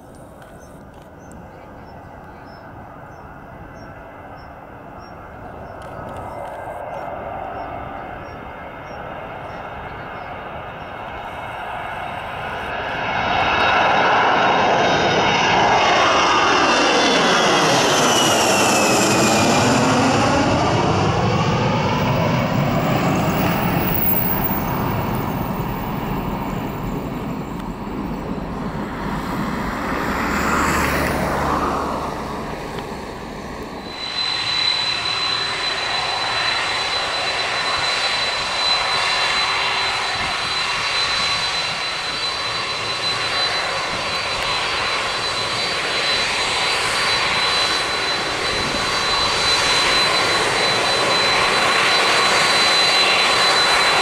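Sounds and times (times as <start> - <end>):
jet airliner taking off: 0.0 - 54.0
jet engines idling whine: 0.0 - 54.0.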